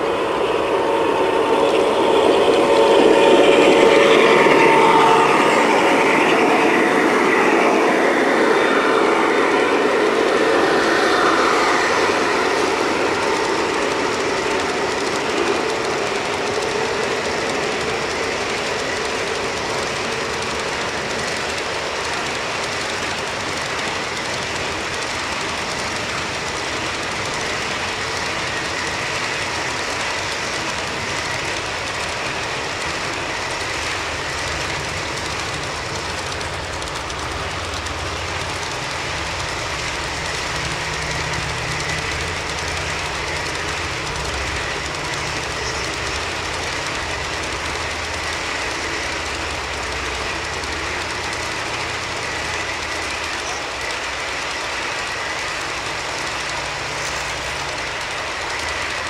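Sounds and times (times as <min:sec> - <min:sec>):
thin high whine: 0:00.0 - 0:59.0
train wheels rolling on rails: 0:00.0 - 0:59.0.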